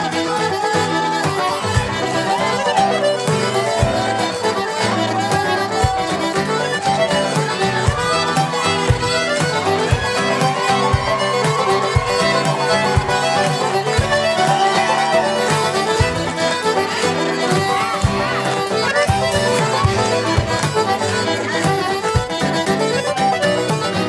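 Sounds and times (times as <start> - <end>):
fiddle dance tune: 0.0 - 24.0.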